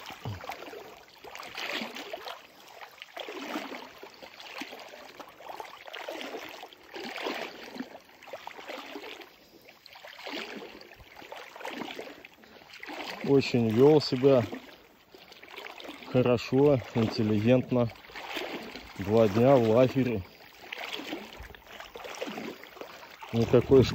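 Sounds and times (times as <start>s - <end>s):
dog swimming and splashing water: 0.0s - 23.9s.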